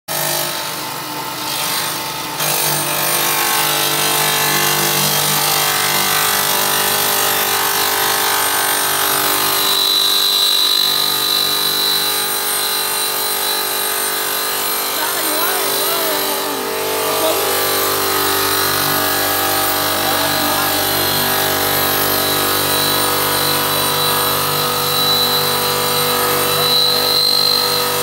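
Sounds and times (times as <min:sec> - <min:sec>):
stone-cutting machine whirring: 0:00.1 - 0:28.0.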